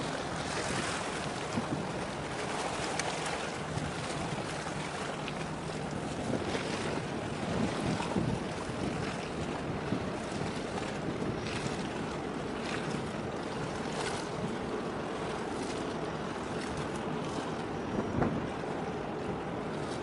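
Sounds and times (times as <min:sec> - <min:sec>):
distant ship engine hum: 0:00.0 - 0:20.0
wind on microphone: 0:00.0 - 0:20.0.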